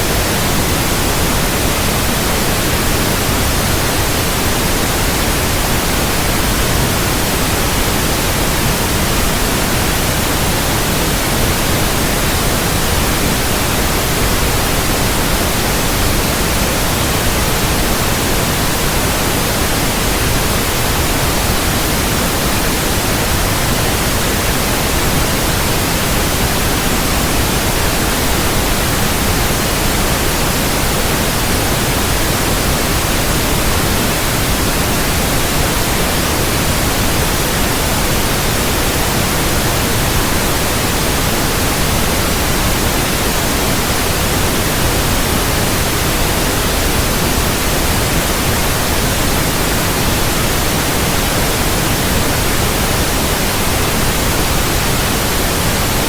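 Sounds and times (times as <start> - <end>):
steady white noise: 0.0 - 56.0.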